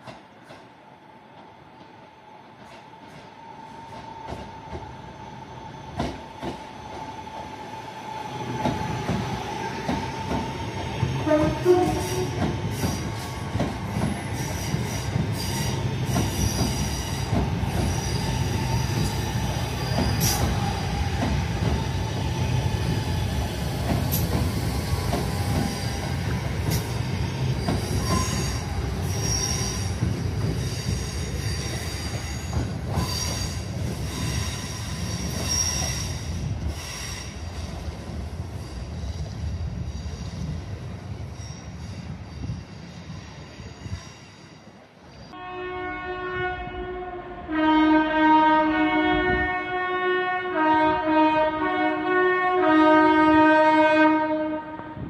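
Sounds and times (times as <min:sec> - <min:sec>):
train passing: 0:00.0 - 0:55.0.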